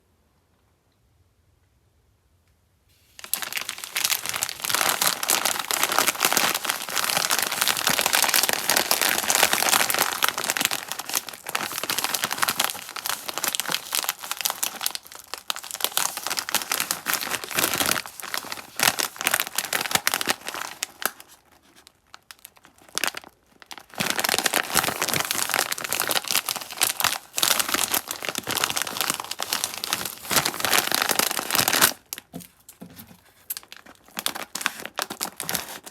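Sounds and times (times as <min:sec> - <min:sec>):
candy wrappers crinkling: 0:03.2 - 0:35.9.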